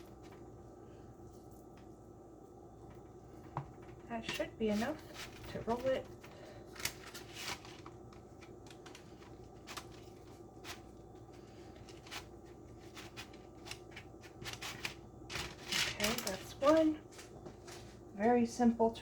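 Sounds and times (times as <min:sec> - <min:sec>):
parchment paper rustling: 0:02.8 - 0:18.5.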